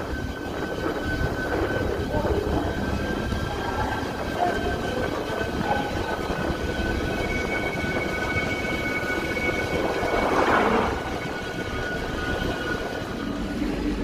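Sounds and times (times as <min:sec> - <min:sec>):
high whining tones: 0:00.0 - 0:14.0
vehicle engine rumble: 0:00.0 - 0:14.0.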